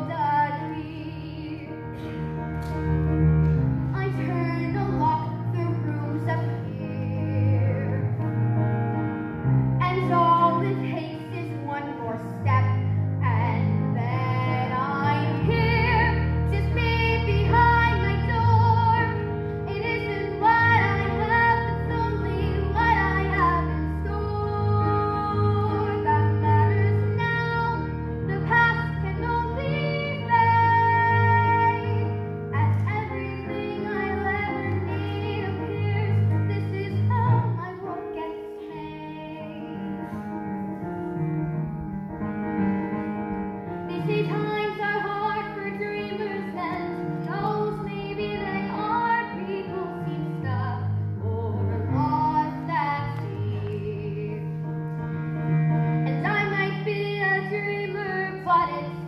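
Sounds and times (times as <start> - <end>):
woman singing: 0.0 - 2.0, 3.9 - 8.1, 9.8 - 40.1, 43.9 - 54.6, 56.0 - 59.0
instrumental accompaniment: 0.0 - 59.0.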